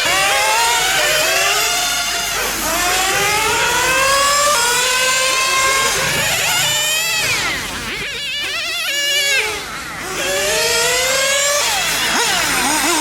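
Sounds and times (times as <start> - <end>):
small nitro engines revving: 0.0 - 13.0.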